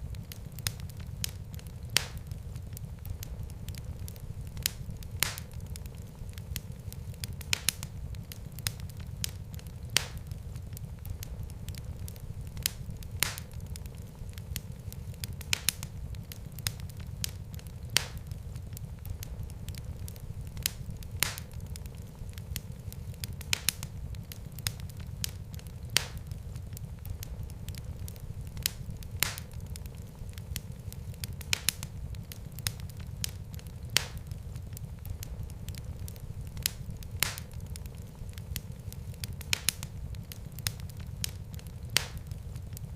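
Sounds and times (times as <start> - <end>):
fire crackling and popping: 0.0 - 42.9
low rumble of flames: 0.0 - 42.9.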